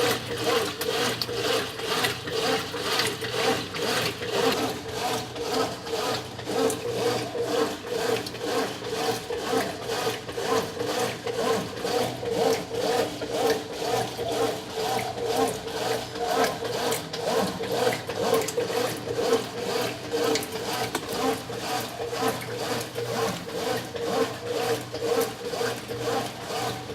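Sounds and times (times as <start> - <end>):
washing machine agitating clothes: 0.0 - 26.9.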